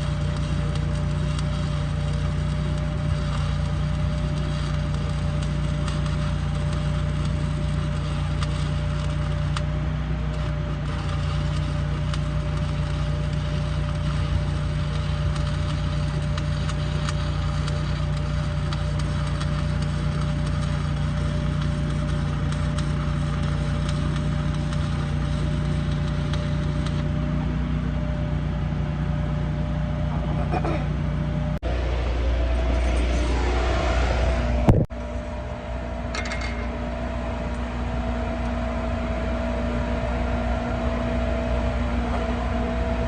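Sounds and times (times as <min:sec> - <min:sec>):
electrical hum: 0:00.0 - 0:43.0
welding arc crackling: 0:00.0 - 0:43.0.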